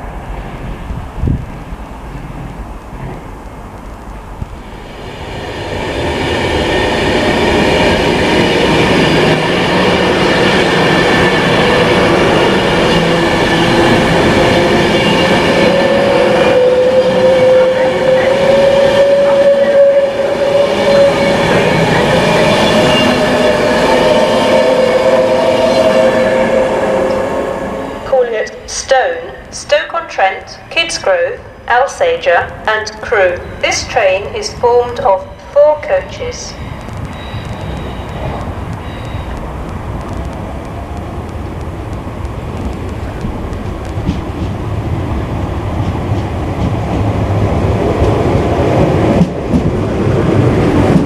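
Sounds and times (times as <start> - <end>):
electric train passing at speed: 0.0 - 51.0.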